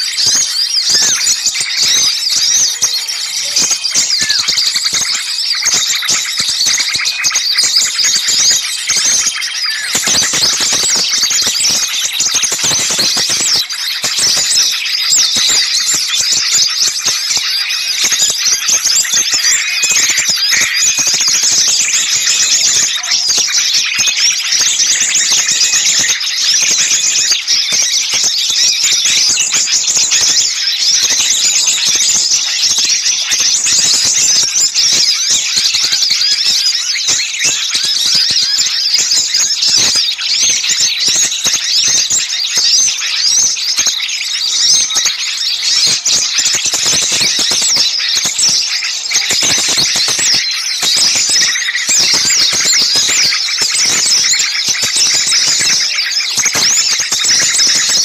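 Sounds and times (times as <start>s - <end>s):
songbirds chattering and chirping: 0.0s - 58.0s.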